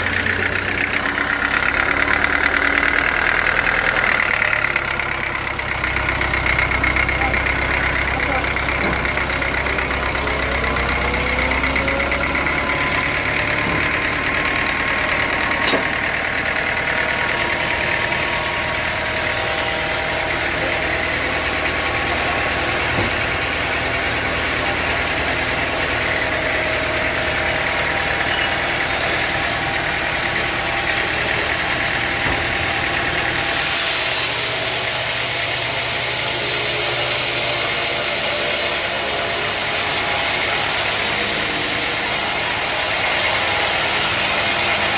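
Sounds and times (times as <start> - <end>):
sawmill machinery droning: 0.0 - 44.9.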